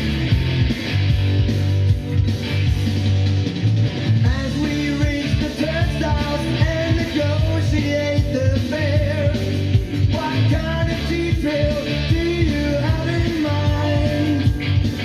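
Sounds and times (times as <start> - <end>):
rock song with singing and guitar: 0.0 - 15.0.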